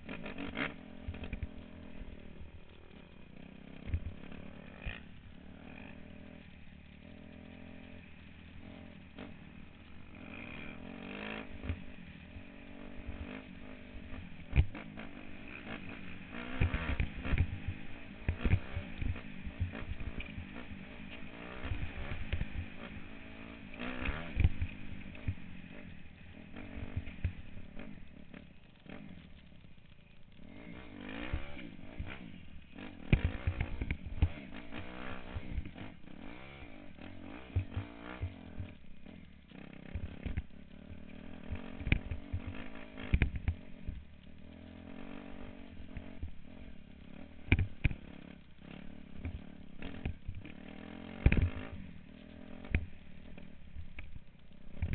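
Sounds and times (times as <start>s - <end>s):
dirt bike engine revving: 0.0s - 54.9s
knocks and rattles of bike: 0.0s - 54.9s.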